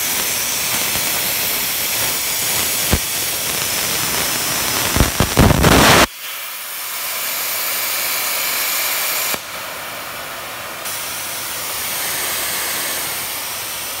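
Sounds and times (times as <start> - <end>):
plasma arc hissing crackle: 0.0 - 10.1, 10.8 - 14.0
torch air hiss: 0.0 - 14.0.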